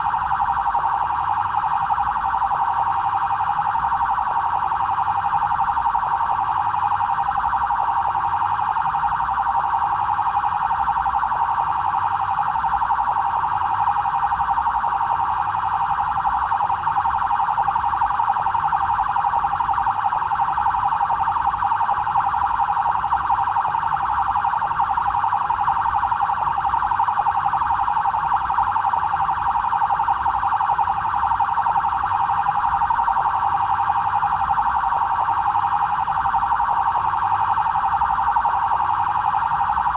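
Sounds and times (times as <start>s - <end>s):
police siren warbling: 0.0s - 39.9s.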